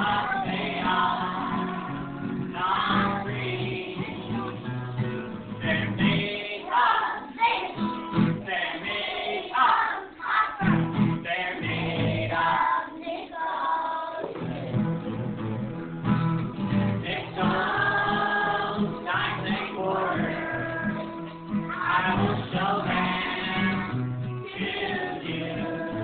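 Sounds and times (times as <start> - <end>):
strummed acoustic guitar: 0.0 - 13.3, 14.2 - 26.0
children singing: 0.0 - 14.9, 17.0 - 26.0.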